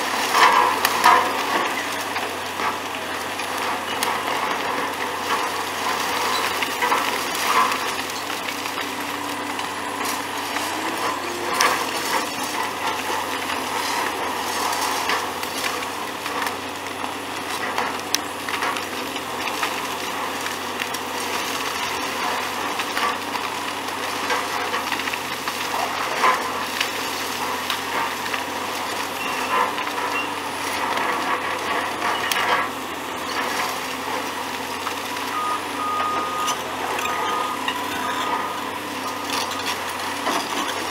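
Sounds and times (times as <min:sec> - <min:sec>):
concrete crackling and breaking: 0:00.0 - 0:40.9
excavator engine running: 0:00.0 - 0:40.9.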